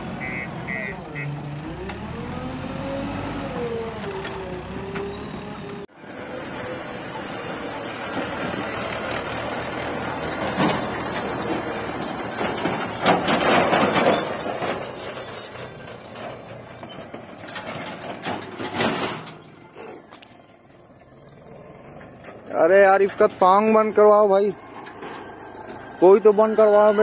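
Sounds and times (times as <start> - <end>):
tractor engine running: 0.0 - 27.0
trailer rattling: 0.0 - 27.0.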